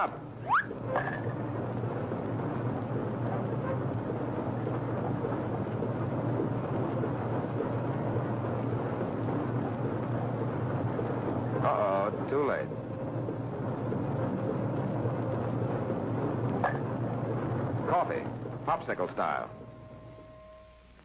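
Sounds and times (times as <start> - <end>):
low hum: 0.0 - 21.0
steady rumble: 0.0 - 21.0.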